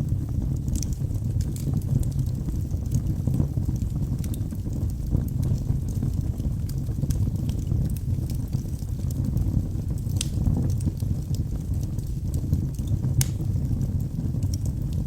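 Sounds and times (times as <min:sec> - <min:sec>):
logs burning in fireplace: 0:00.0 - 0:15.0.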